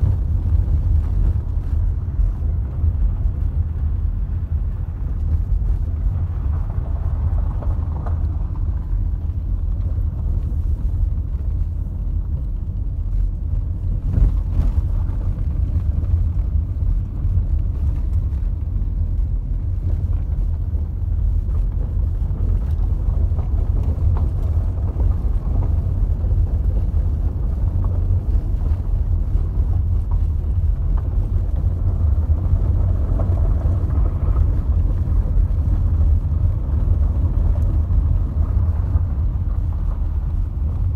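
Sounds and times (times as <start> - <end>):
car rumbling on dirt road: 0.0 - 40.9.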